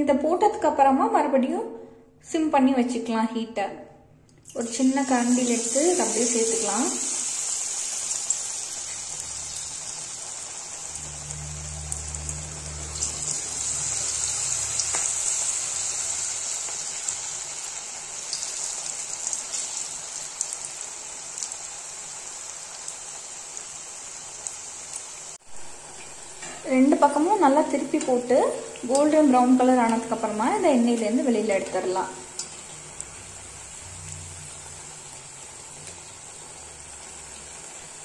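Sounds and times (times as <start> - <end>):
hot oil sizzling: 4.4 - 38.0.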